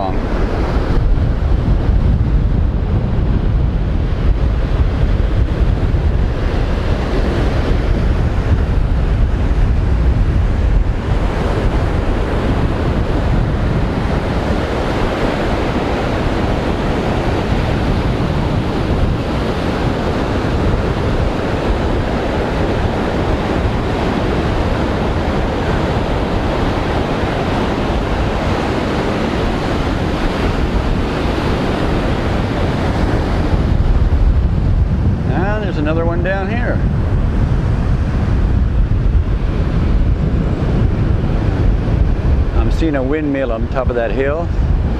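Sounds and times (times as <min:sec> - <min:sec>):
surf breaking on beach: 0:00.0 - 0:44.9
wind buffeting microphone: 0:00.0 - 0:44.9.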